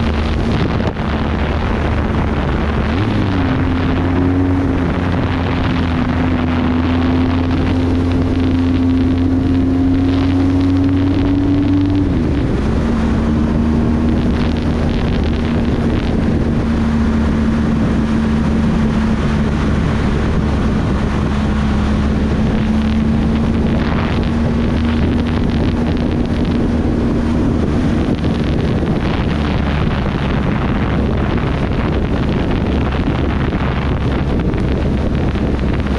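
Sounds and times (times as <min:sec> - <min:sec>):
motorcycle engine: 0:00.0 - 0:35.9
wind rushing over microphone: 0:00.0 - 0:35.9.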